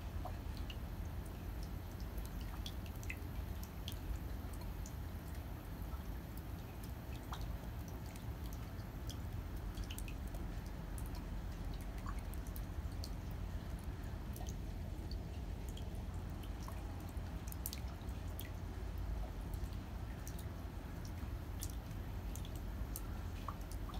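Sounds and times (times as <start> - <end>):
raindrops dripping: 0.0 - 23.9
steady low rumble: 0.0 - 23.9.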